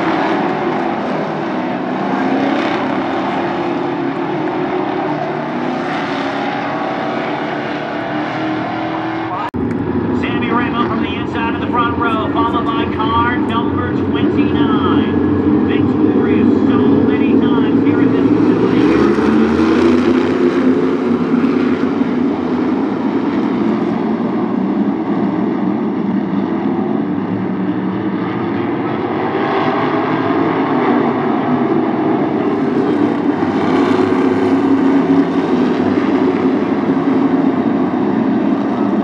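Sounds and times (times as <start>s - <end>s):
race car engines droning: 0.0s - 39.0s.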